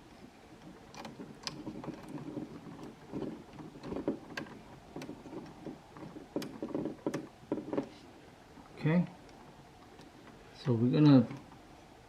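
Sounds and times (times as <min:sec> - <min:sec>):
wires rustling: 0:00.0 - 0:12.0.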